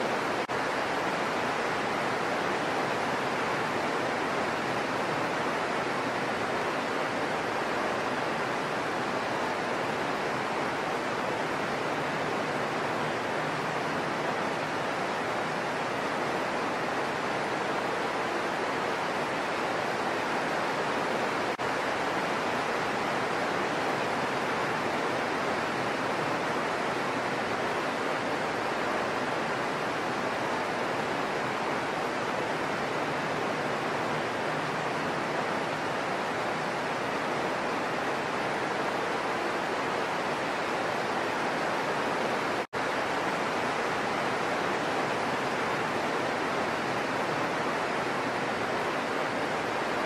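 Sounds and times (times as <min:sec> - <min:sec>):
heavy rain on foliage: 0:00.0 - 0:50.0.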